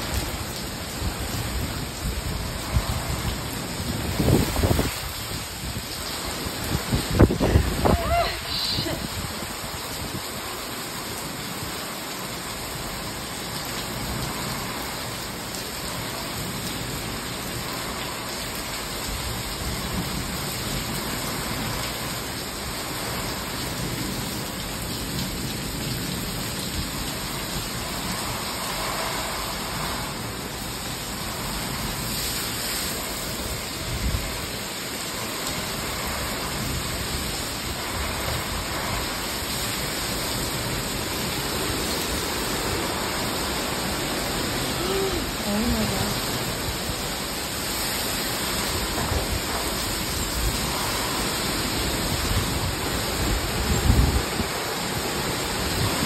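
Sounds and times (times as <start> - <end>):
heavy rain in gusty wind: 0.0 - 56.0.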